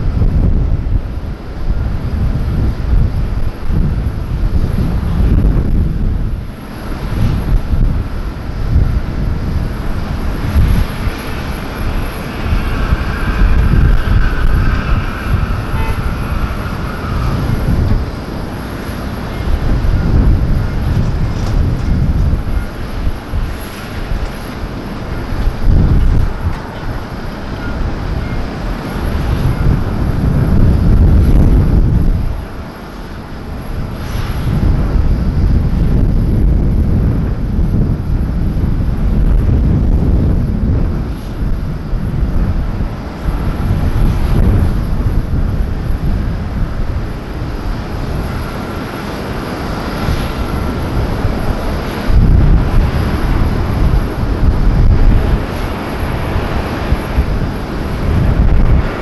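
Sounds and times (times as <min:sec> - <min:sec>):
jet engine whine: 0:00.0 - 0:59.0
jet engines roaring: 0:00.0 - 0:59.0.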